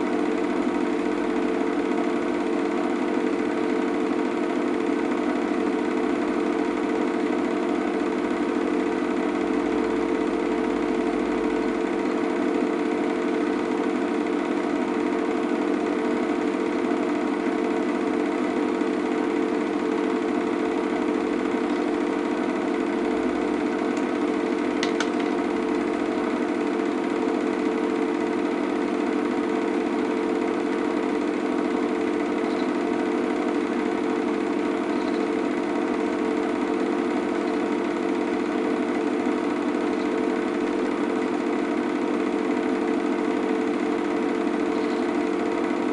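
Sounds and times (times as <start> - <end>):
small machine droning: 0.0 - 45.9.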